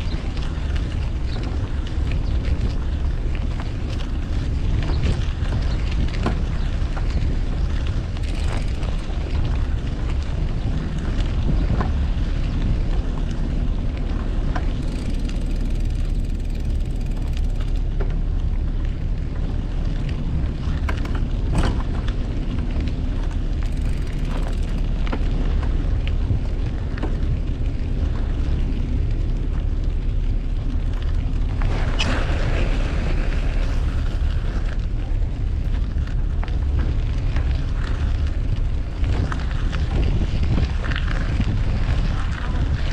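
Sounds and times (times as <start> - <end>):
bicycle clicks and rattles: 0.0 - 42.9
wind buffeting microphone: 0.0 - 42.9.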